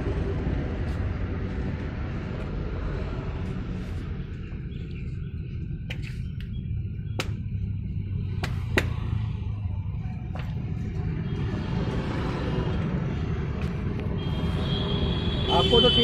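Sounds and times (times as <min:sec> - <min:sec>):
low road traffic rumble: 0:00.0 - 0:16.0.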